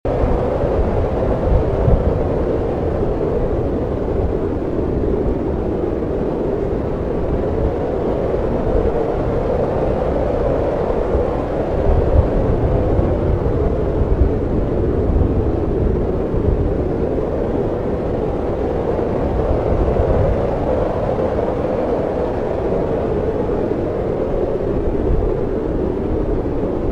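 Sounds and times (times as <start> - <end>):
snowstorm wind rushing: 0.1 - 26.9.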